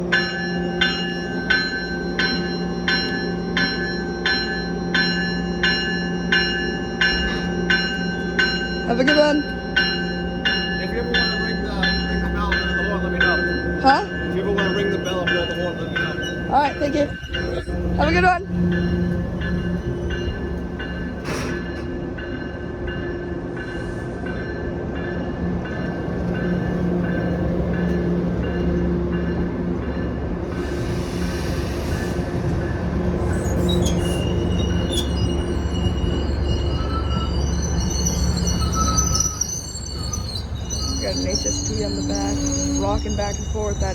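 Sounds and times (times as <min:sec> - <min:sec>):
locomotive bell ringing: 0:00.0 - 0:31.0, 0:32.1 - 0:43.9.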